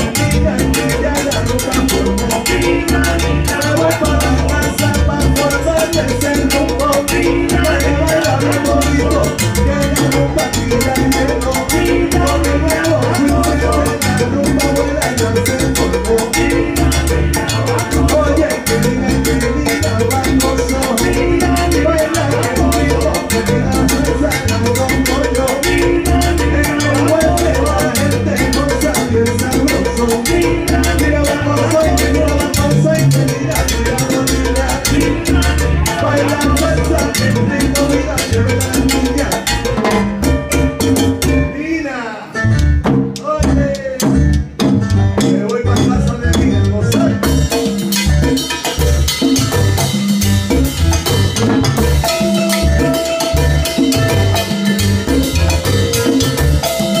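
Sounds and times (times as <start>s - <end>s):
congas: 0.0s - 57.0s
repeating bass line: 0.0s - 57.0s
salsa band playing: 0.0s - 57.0s.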